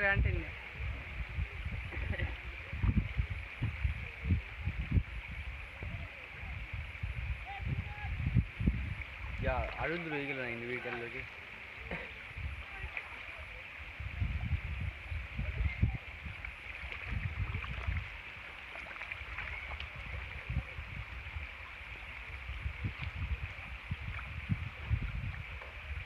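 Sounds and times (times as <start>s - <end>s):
low rumble in gusts: 0.0s - 26.0s.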